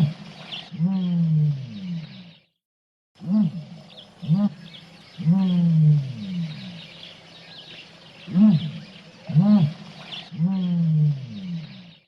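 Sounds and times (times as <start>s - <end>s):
faint bird chirps: 0.0s - 2.6s, 3.2s - 12.0s.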